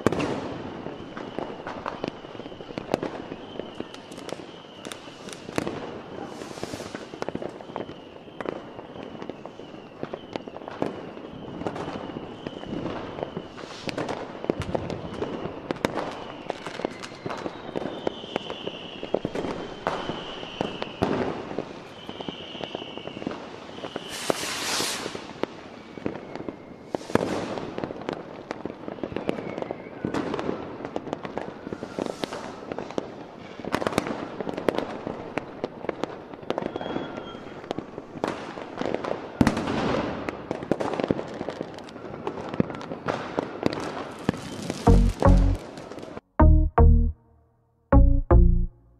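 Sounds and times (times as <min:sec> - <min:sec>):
fireworks bangs and crackling: 0:00.0 - 0:46.2.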